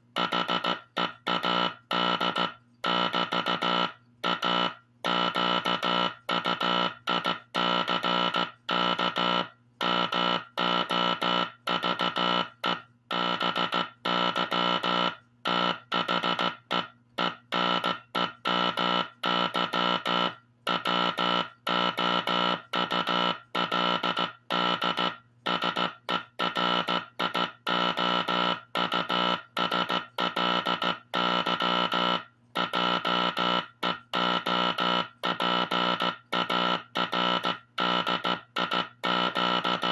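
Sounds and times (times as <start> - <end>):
morse code buzzy tone: 0.1 - 39.9.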